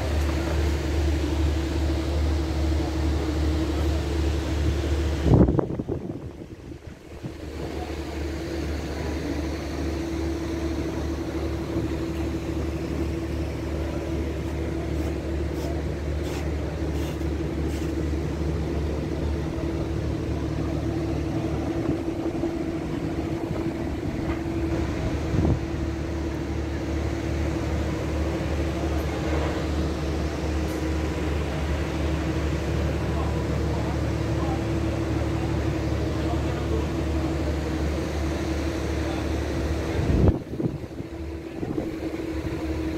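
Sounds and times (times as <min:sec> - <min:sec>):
mechanical hum: 0:00.0 - 0:42.9.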